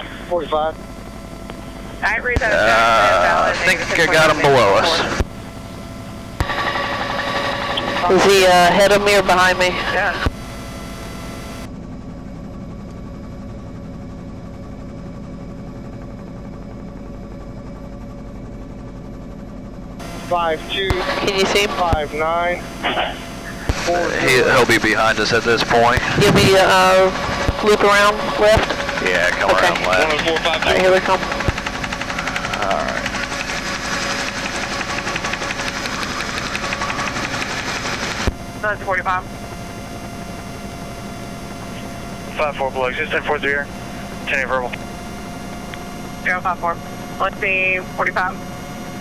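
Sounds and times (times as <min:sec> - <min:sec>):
helicopter engine and rotor drone: 0:00.0 - 0:49.0.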